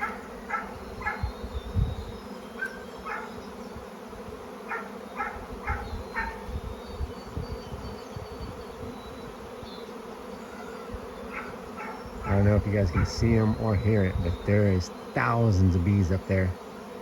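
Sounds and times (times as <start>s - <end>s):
bee swarm buzzing: 0.0s - 17.0s.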